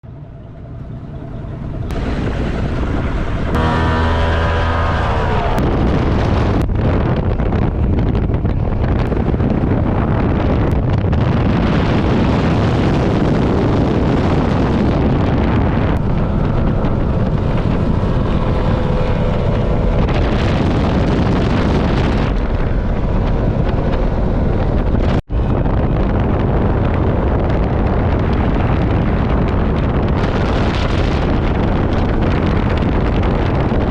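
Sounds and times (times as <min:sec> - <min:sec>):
speedboat engines running: 0:00.0 - 0:33.9
water noise: 0:00.0 - 0:33.9
wind rush on microphone: 0:00.0 - 0:33.9.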